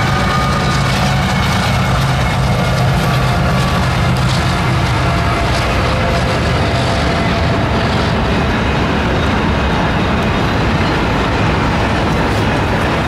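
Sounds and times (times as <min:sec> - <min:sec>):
freight train passing: 0:00.0 - 0:13.0
wheels rumbling on rails: 0:00.0 - 0:13.0.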